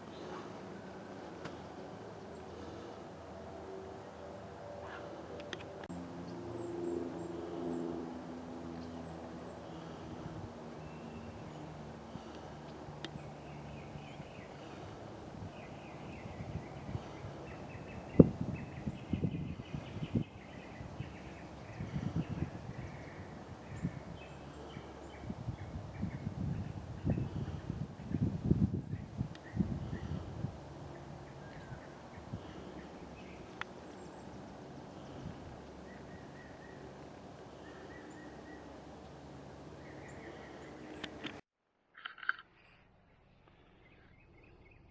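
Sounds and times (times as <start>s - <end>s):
steady outdoor noise: 0.0s - 44.9s.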